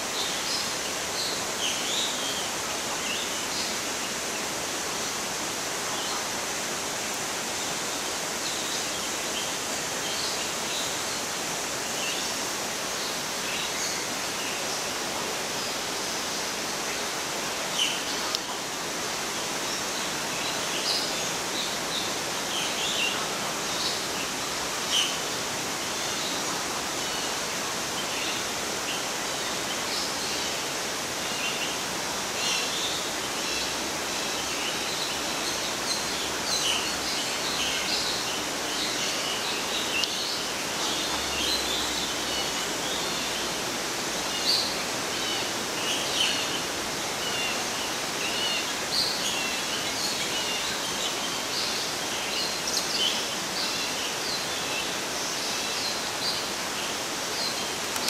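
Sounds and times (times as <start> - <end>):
steady outdoor hiss: 0.0 - 58.0.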